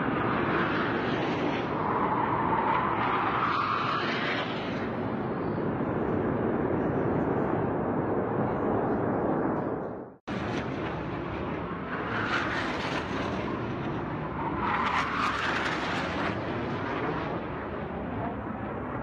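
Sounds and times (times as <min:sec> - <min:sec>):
jet flying low overhead: 0:00.0 - 0:19.0.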